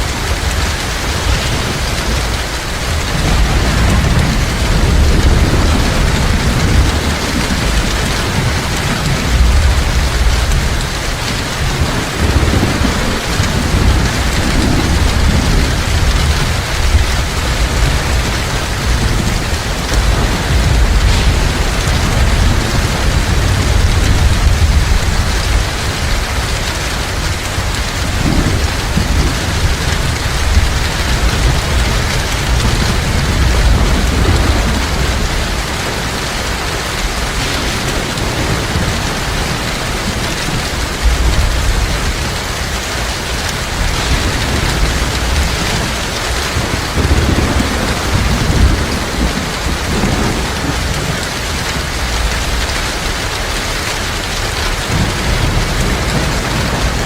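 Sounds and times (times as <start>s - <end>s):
deep rolling thunder: 0.0s - 57.0s
heavy rain falling: 0.0s - 57.0s.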